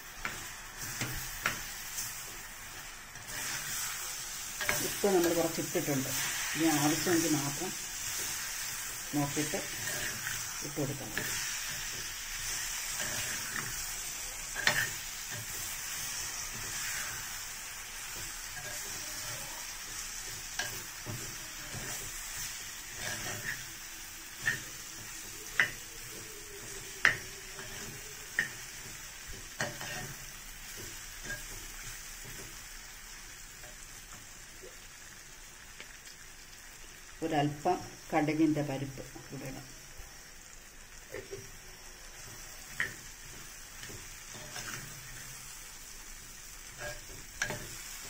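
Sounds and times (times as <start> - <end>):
brine sizzling in oil: 0.0 - 48.0.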